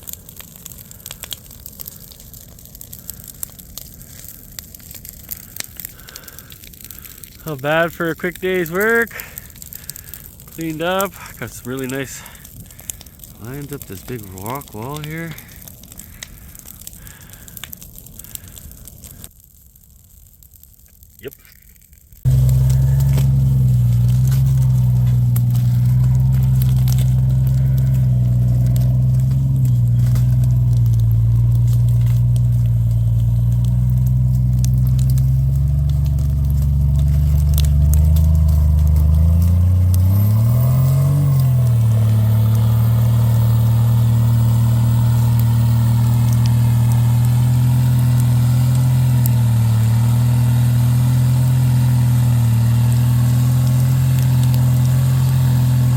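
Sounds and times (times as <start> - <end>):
off-road vehicle engine running: 5.3 - 17.6, 22.2 - 55.9.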